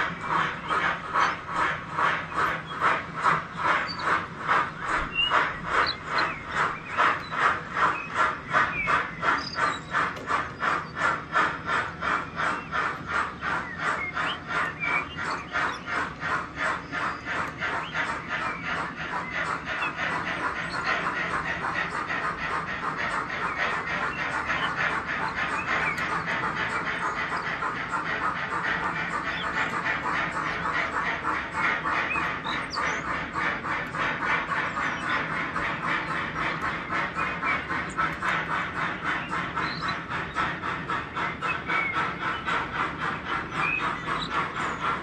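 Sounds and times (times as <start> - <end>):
model steam locomotive chuffing: 0.0 - 45.0.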